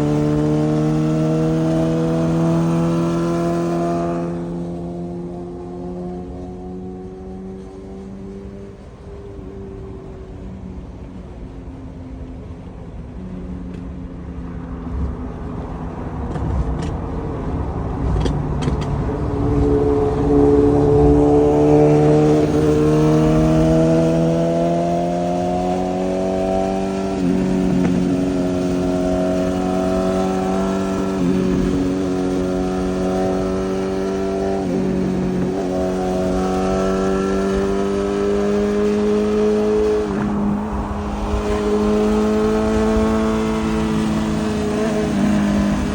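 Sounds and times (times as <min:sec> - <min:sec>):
motorcycle engine revving: 0:00.0 - 0:09.4, 0:16.2 - 0:45.9.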